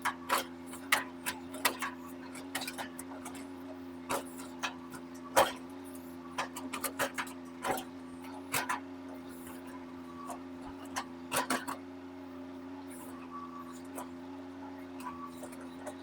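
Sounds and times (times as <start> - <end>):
mini excavator engine running: 0.0 - 16.0.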